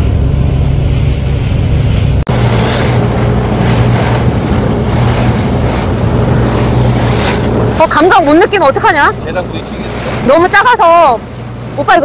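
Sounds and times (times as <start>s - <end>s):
boat engine running: 0.0s - 12.0s
wind and water rushing: 0.0s - 12.0s.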